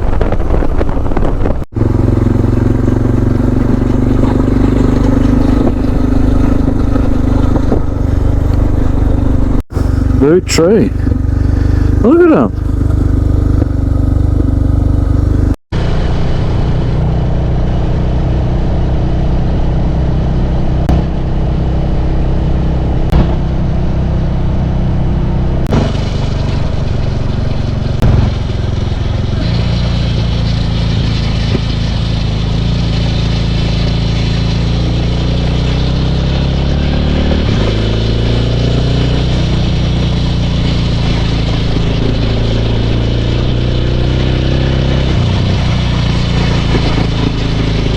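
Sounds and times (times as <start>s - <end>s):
wind noise: 0.0s - 36.1s, 36.7s - 47.9s
motorcycle engine running: 0.0s - 47.9s
road noise: 0.0s - 47.9s.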